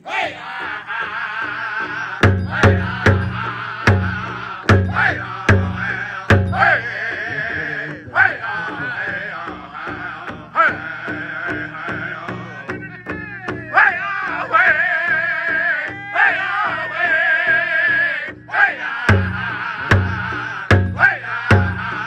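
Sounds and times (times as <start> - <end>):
group singing high wavering voices: 0.0 - 22.0
big drum beating: 0.7 - 22.0.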